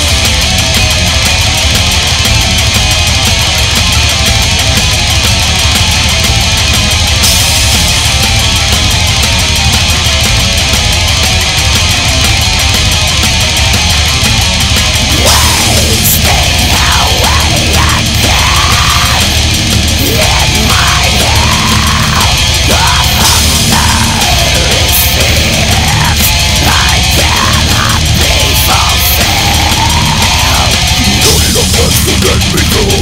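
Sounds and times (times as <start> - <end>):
death metal music: 0.0 - 33.0.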